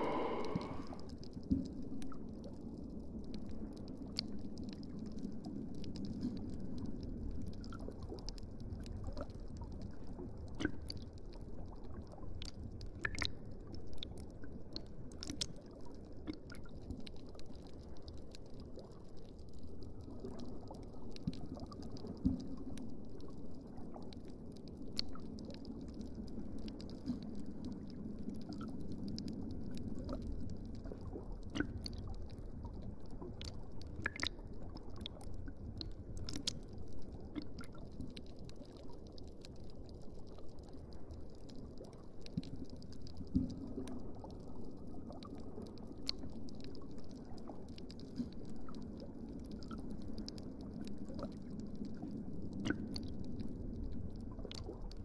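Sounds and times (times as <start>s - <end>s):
low underwater rumble: 0.0s - 12.9s, 15.7s - 55.0s
sharp clicks and crackles: 0.5s - 55.0s.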